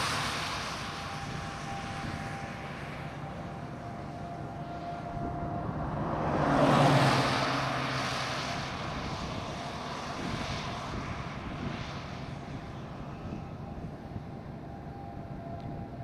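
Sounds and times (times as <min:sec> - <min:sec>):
passing vehicle rush: 0:00.0 - 0:15.2
road and tyre noise: 0:00.0 - 0:16.0.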